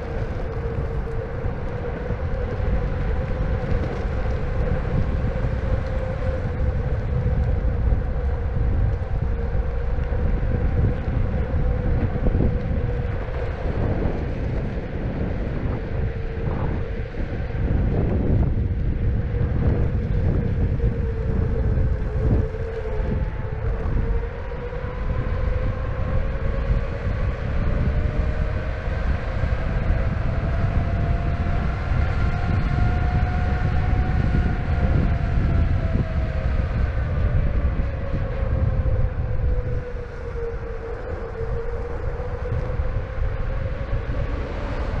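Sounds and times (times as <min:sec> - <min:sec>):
wheels rumbling on asphalt: 0:00.0 - 0:45.0
wind: 0:00.0 - 0:45.0.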